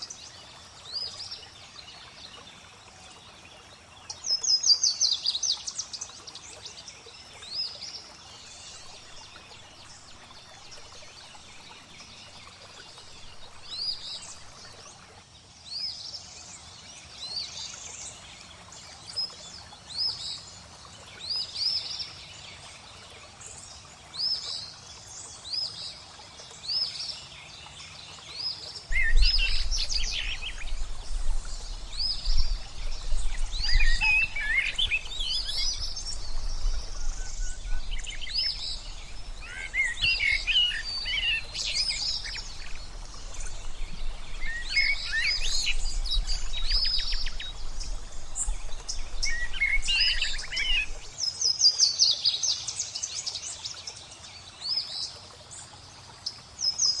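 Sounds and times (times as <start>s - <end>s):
flowing water: 0.0s - 57.0s
songbirds singing and chirping: 0.0s - 57.0s.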